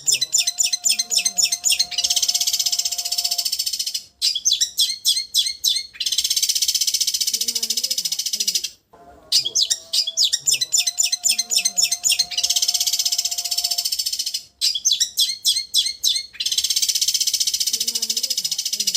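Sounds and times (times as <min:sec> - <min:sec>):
bird chirping and trilling: 0:00.0 - 0:18.9.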